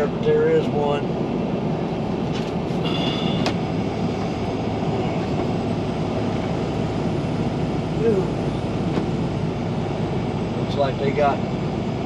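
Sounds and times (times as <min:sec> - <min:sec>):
engine and road noise: 0:00.0 - 0:12.0.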